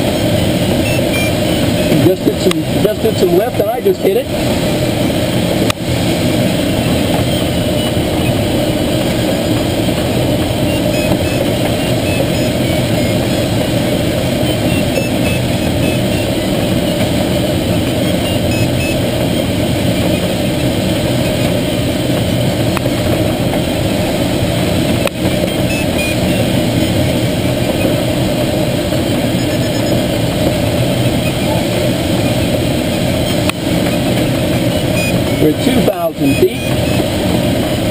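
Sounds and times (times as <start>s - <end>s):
airflow rushing in glider cockpit: 0.0s - 37.9s.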